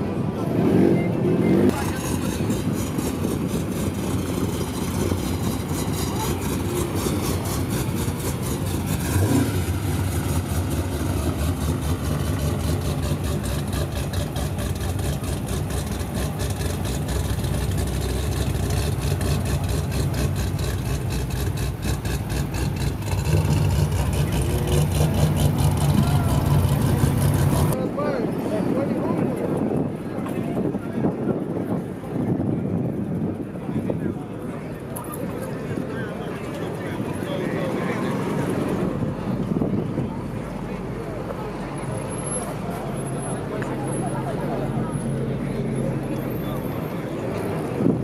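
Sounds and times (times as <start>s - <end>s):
car engine low rumble: 0.0s - 48.0s.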